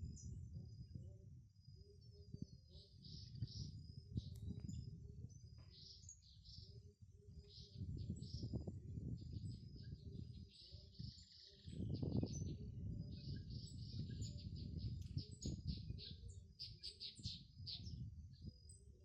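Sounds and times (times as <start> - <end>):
birds chirping: 1.8 - 19.0.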